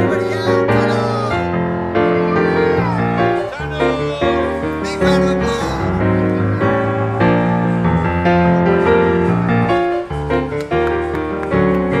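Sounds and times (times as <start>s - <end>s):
piano playing sustained chords: 0.0s - 12.0s.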